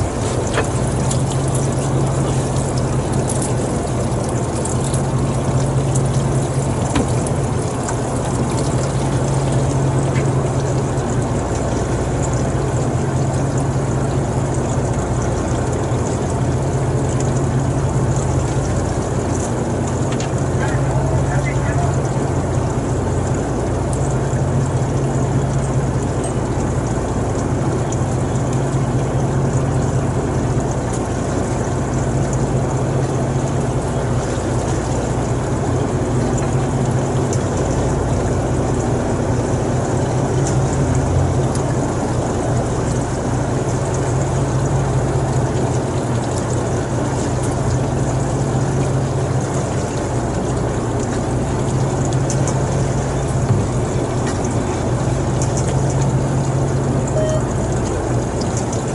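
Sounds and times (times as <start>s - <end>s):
boat engine droning: 0.0s - 58.9s.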